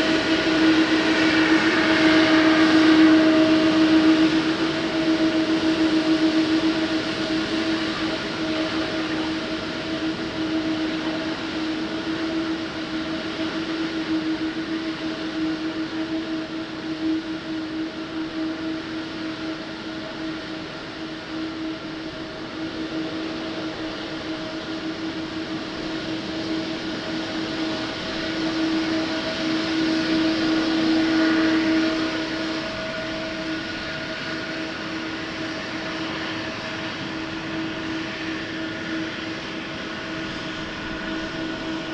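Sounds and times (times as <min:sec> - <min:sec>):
jet engines whining: 0:00.0 - 0:41.9.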